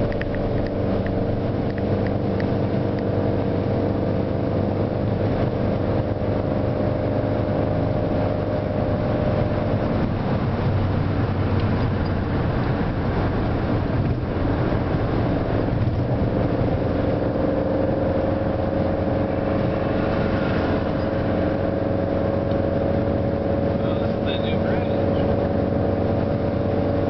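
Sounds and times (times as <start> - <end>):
car engine drone: 0.0 - 27.0
road and wind noise: 0.0 - 27.0.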